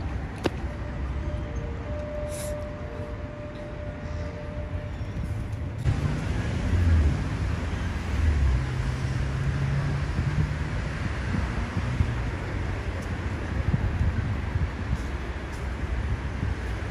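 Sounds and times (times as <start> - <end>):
road noise: 0.0 - 16.9.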